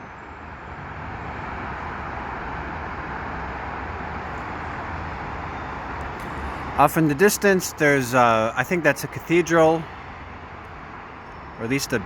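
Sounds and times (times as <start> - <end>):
distant city traffic hum: 0.0 - 12.0.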